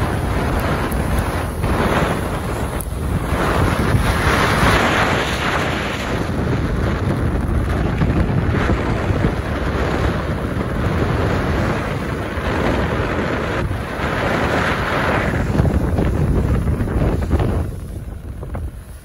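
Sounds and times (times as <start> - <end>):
storm wind buffeting microphone: 0.0 - 19.0.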